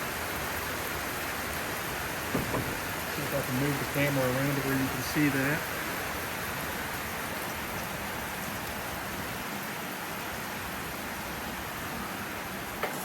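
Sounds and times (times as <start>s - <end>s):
heavy rain pattering: 0.0s - 12.8s.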